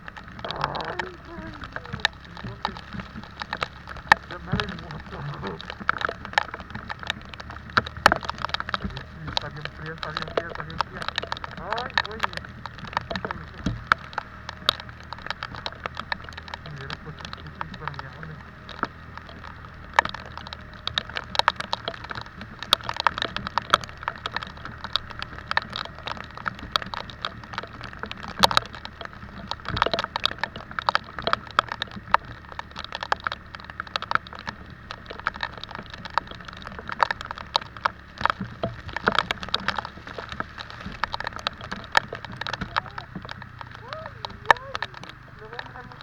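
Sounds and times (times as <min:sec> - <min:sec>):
low steady hum: 0:00.0 - 0:46.0
raindrops hitting microphone: 0:00.0 - 0:46.0.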